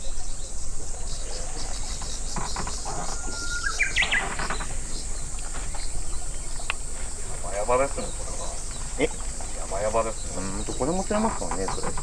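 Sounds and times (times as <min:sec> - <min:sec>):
bird singing: 0:00.0 - 0:12.0
insects buzzing: 0:00.0 - 0:12.0.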